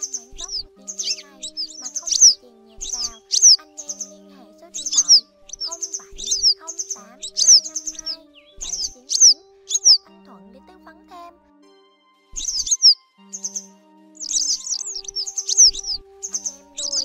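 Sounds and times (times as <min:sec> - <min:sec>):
wagtail calls: 0:00.0 - 0:10.1, 0:12.4 - 0:17.0
background music of held notes: 0:00.0 - 0:17.0.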